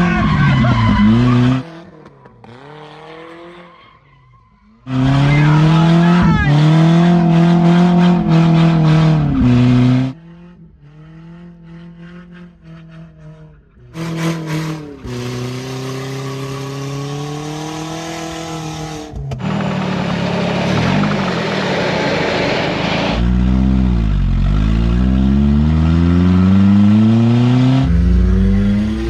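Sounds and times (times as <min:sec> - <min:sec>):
truck engine revving high: 0:00.0 - 0:03.8, 0:04.8 - 0:29.0.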